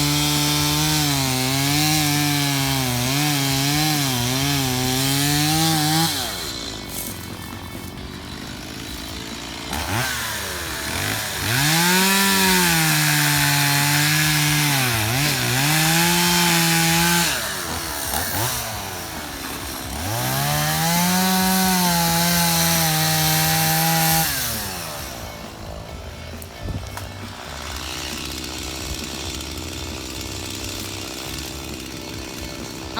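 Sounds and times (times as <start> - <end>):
chainsaw revving and idling: 0.0 - 32.9.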